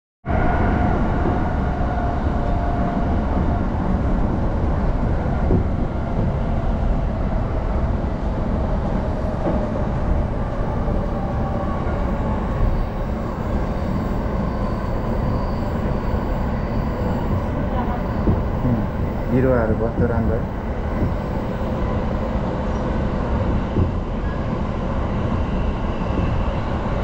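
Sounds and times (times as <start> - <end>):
train wheels rumbling on rails: 0.3 - 27.0.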